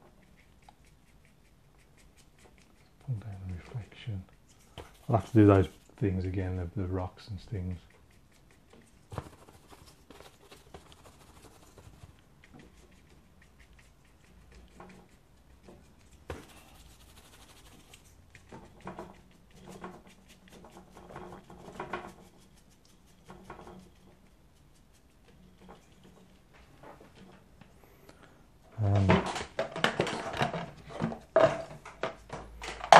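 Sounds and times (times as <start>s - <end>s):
brush dabbing paint on paper: 0.0s - 27.8s.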